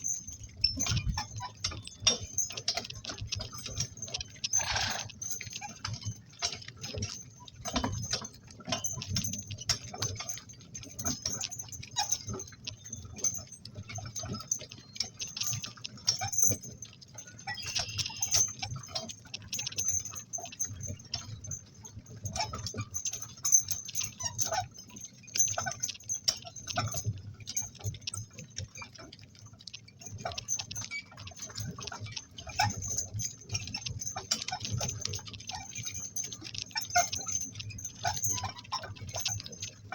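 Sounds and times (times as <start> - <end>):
harness hardware jingling: 0.0 - 39.9.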